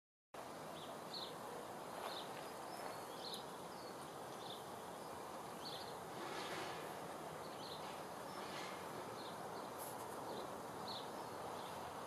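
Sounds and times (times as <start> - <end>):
steady soft hiss: 0.4 - 12.0.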